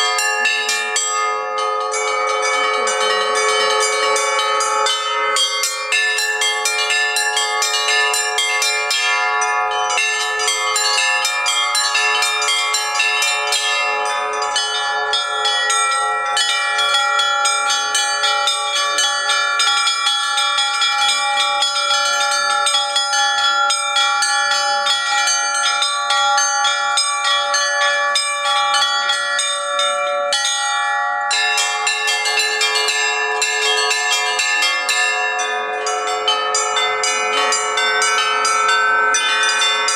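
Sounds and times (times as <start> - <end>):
deep bells humming: 0.0 - 39.9
small high bells ringing: 0.0 - 39.9.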